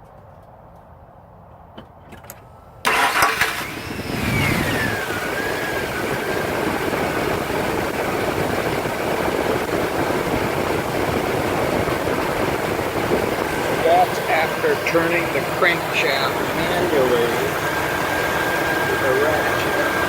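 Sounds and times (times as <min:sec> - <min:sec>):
car engine cranking and running: 0:02.2 - 0:20.0.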